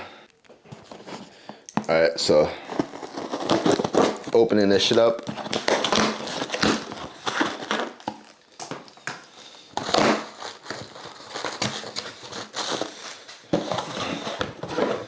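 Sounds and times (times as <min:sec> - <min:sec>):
packaging crinkling and tearing: 0:02.6 - 0:15.0.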